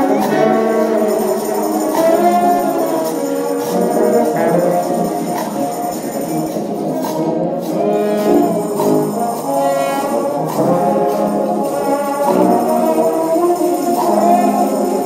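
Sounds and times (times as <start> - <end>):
tambourine shaken: 0.0 - 15.0
trombones playing chords: 0.0 - 15.0.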